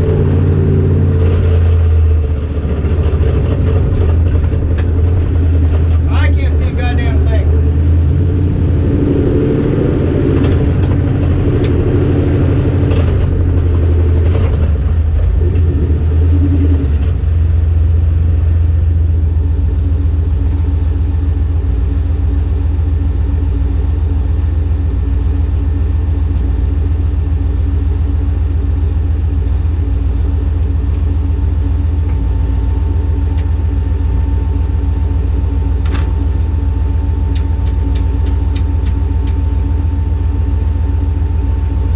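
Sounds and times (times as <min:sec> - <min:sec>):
car engine running: 0:00.0 - 0:41.9.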